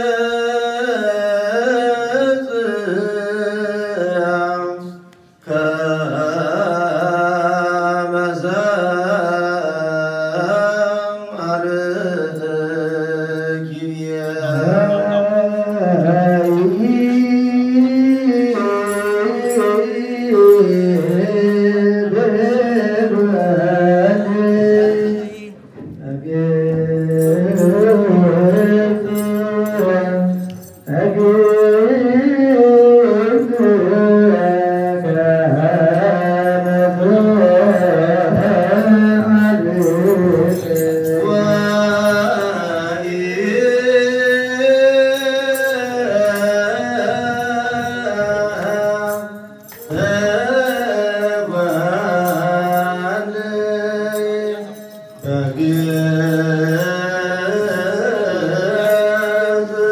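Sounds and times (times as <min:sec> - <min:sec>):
men chanting a hymn: 0:00.0 - 0:59.9.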